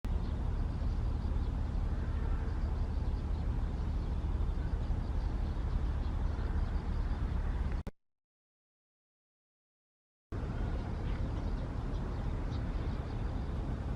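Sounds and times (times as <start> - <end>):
low outdoor rumble: 0.1 - 7.9, 10.3 - 13.9.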